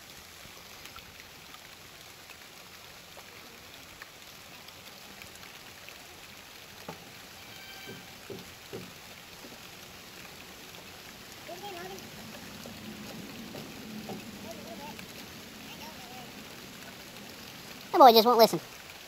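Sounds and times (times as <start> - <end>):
light rain falling: 0.0 - 19.0
raindrops tapping on surfaces: 0.0 - 19.0.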